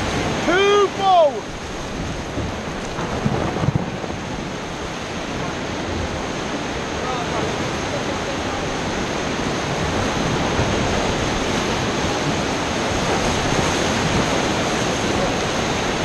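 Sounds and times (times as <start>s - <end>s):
whitewater rapids rushing: 0.0s - 16.0s.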